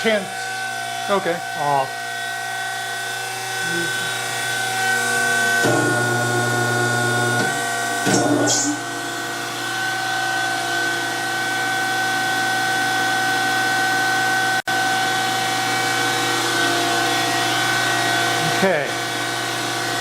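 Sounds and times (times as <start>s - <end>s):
surface grinder whining: 0.0s - 20.0s.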